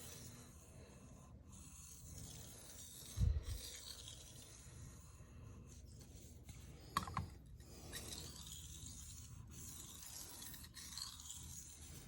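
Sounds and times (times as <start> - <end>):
knife scraping on whetstone: 0.0 - 12.0.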